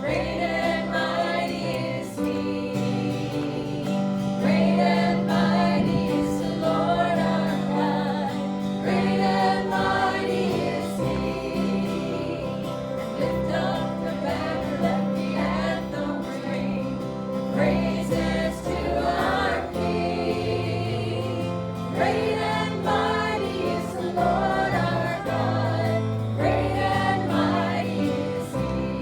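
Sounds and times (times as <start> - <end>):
group singing gospel: 0.0 - 29.0.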